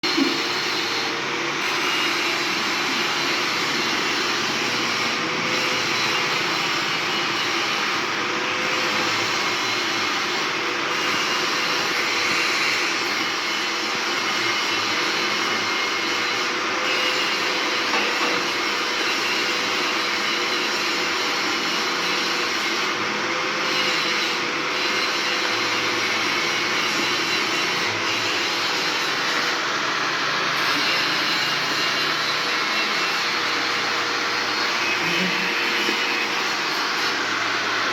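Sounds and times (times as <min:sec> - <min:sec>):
welding arc hissing: 0:00.1 - 0:37.9.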